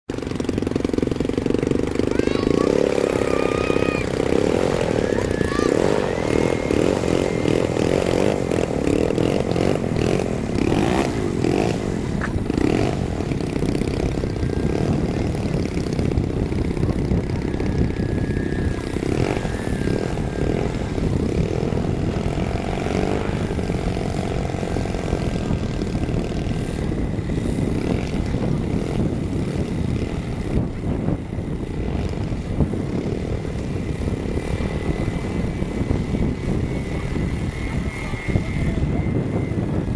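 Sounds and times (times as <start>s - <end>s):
model airplane engine running: 0.1s - 39.9s.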